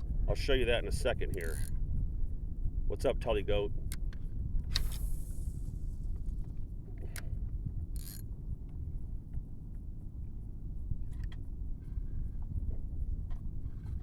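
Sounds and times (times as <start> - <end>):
low rumble on open water: 0.0 - 14.0.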